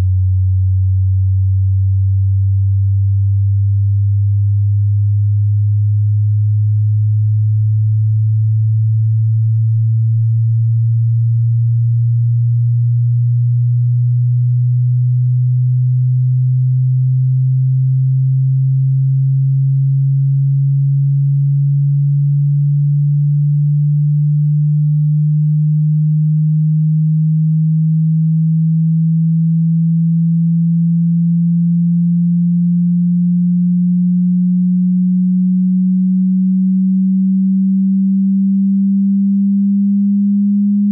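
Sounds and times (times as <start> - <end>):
sine wave tone rising in pitch: 0.0 - 40.9.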